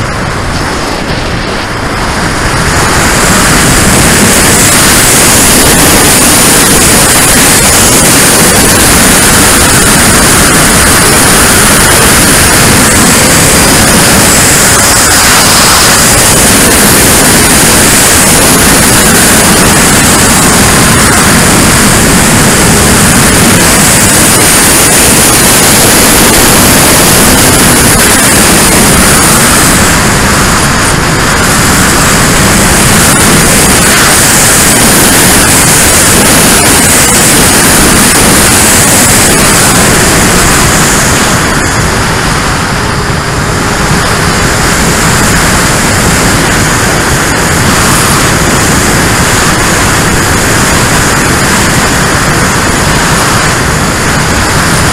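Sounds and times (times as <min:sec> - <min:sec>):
electric ducted fan: 0:00.0 - 0:54.9
wind rushing over airframe: 0:00.0 - 0:54.9.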